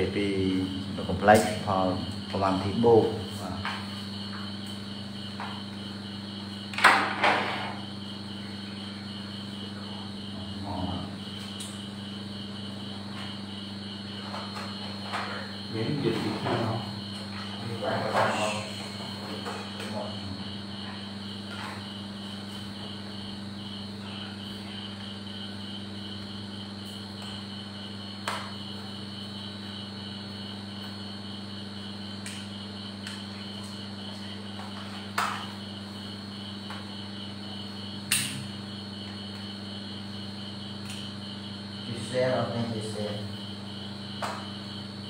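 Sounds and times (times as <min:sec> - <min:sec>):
insect chirping: 0:00.0 - 0:45.0.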